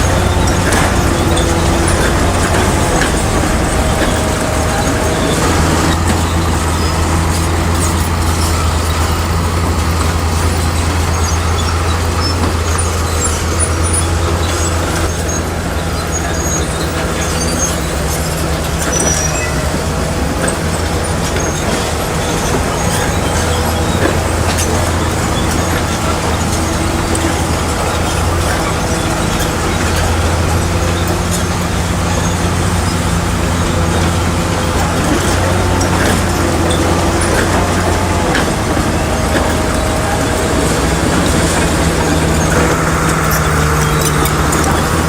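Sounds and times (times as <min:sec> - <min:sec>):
heavy diesel engine running: 0:00.0 - 0:45.0.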